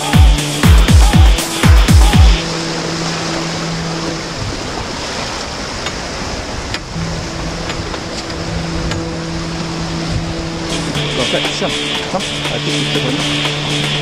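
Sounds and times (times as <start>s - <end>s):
boat engine humming: 0.0s - 14.0s
seawater rushing along hull: 0.0s - 14.0s.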